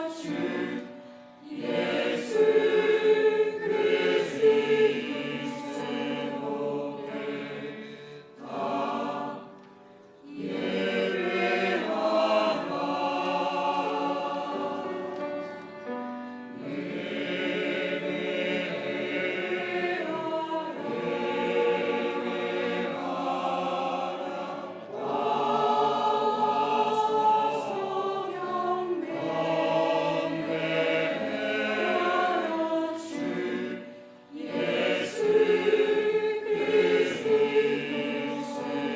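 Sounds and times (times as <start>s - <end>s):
choir breaths: 0.0s - 38.9s
church choir singing: 0.0s - 38.9s.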